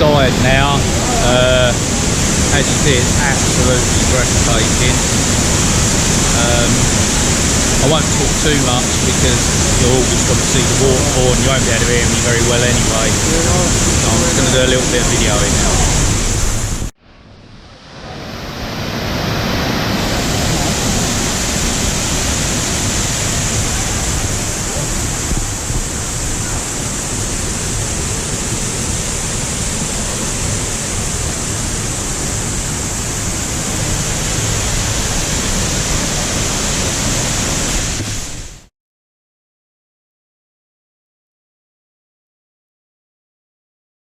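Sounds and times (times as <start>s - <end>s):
waterfall rushing: 0.0s - 16.9s, 17.8s - 38.7s.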